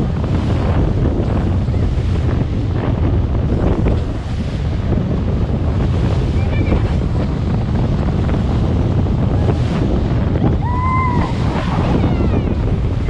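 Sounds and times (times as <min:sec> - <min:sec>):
choppy water rushing: 0:00.0 - 0:13.0
wind buffeting microphone: 0:00.0 - 0:13.0.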